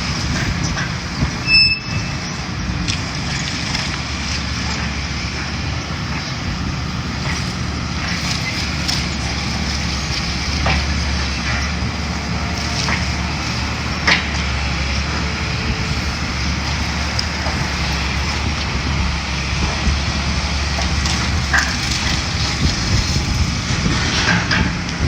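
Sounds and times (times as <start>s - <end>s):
demolition machine engine running: 0.0s - 25.0s.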